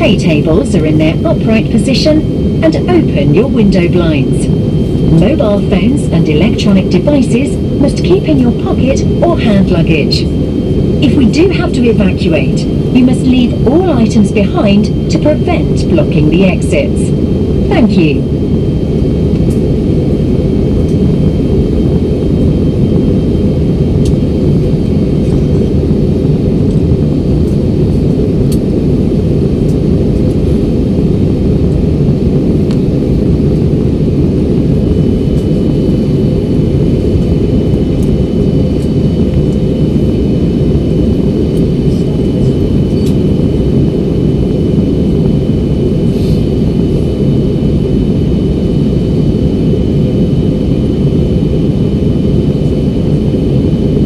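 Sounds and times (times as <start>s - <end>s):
jet engine and airflow rumble: 0.0s - 54.0s.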